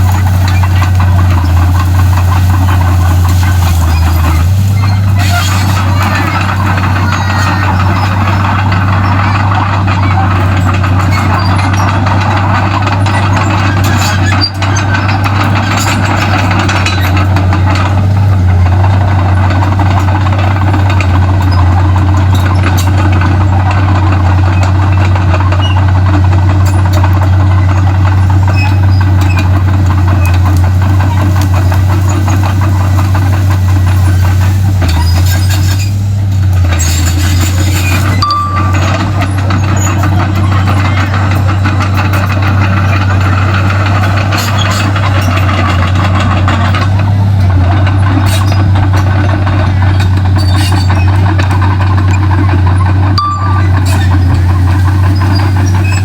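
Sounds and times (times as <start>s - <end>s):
bulldozer diesel engine drone: 0.0s - 56.0s
mechanical clatter: 0.0s - 56.0s.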